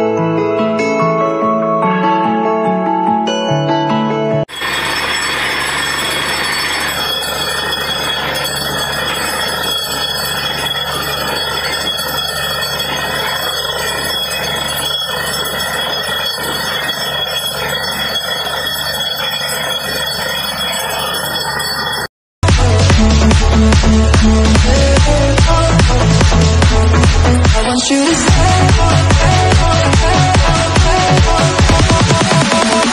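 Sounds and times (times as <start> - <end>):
drilling rig running: 4.5 - 32.9.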